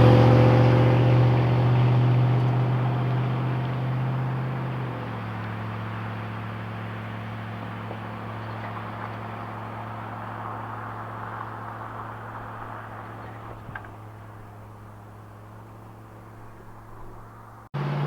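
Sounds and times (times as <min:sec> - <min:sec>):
engine exhaust drone: 0:00.0 - 0:18.0.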